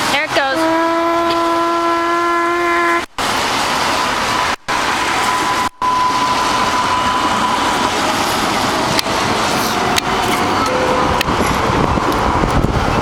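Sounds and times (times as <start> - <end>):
tyres hissing on wet road: 0.0 - 13.0.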